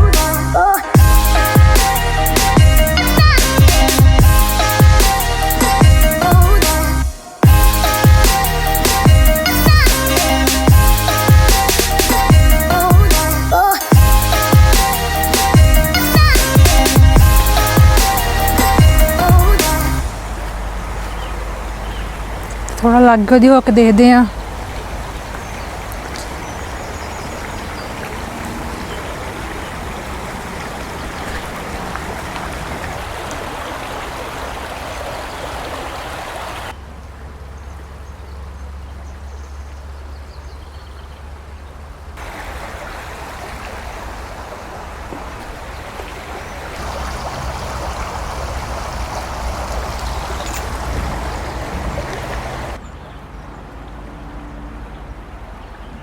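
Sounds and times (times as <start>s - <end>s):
waterfall rushing: 0.0s - 36.8s, 42.2s - 52.8s.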